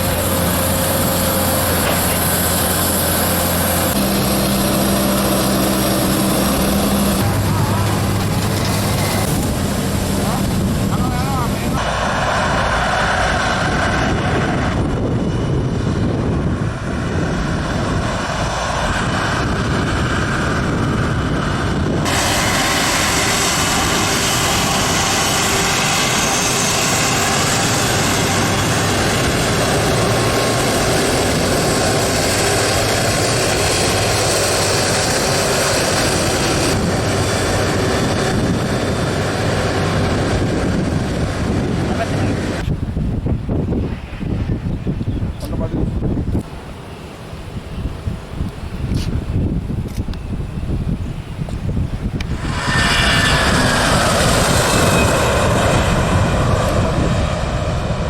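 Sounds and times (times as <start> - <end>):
jet engines rushing: 0.0 - 58.0.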